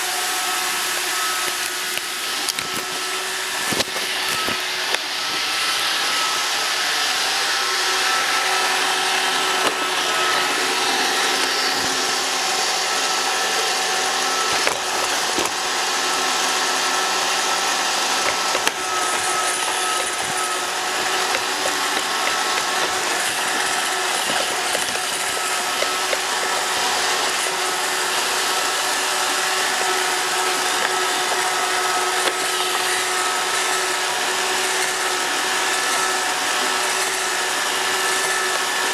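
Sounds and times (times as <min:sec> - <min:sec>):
robot vacuum running: 0:00.0 - 0:38.9.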